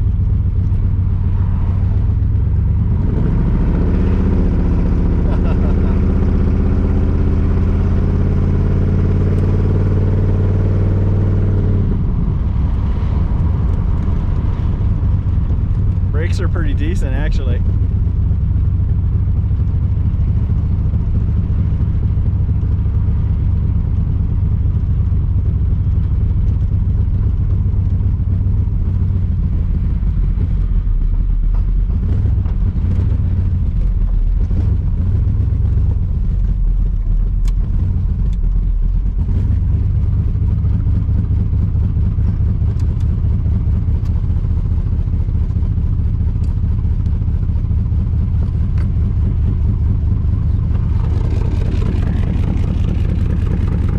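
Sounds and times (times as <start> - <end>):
car exhaust drone: 0.0 - 53.9.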